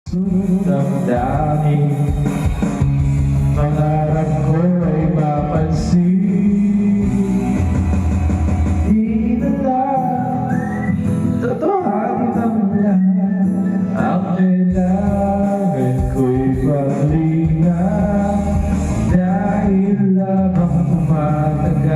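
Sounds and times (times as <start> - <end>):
rock song with singer and guitar: 0.1 - 21.9.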